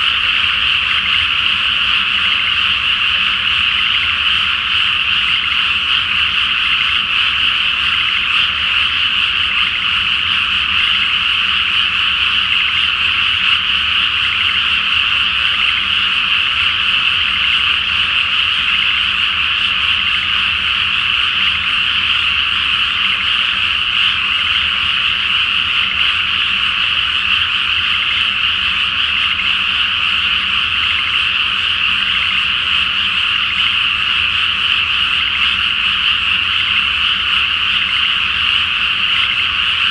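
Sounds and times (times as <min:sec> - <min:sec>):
chorus of frogs: 0:00.0 - 0:39.9.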